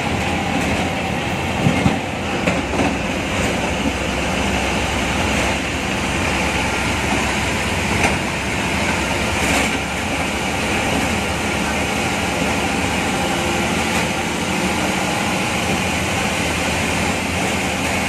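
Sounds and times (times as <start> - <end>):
bus body rattling: 0.0 - 18.0
bus engine and road noise: 0.0 - 18.0.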